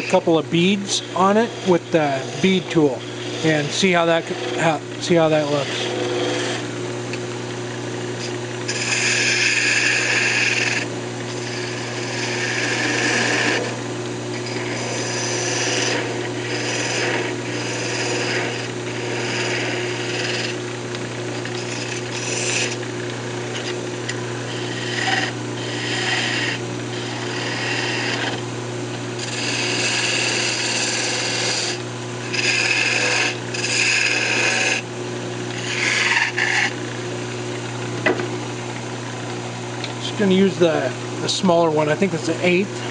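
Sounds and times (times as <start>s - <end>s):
lathe tool scraping wood: 0.0s - 7.2s, 7.8s - 37.1s, 39.9s - 42.9s
lathe hum: 0.0s - 42.9s.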